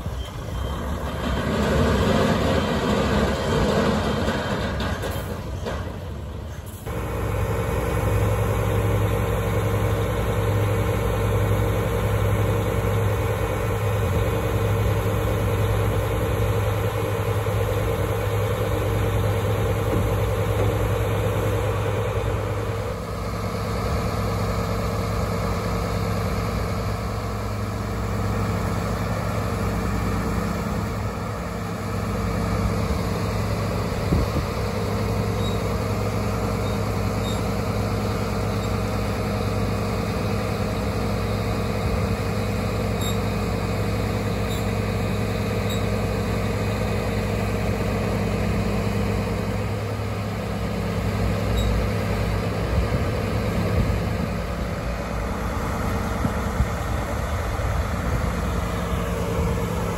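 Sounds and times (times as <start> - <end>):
truck diesel engine idling: 0.0 - 59.9.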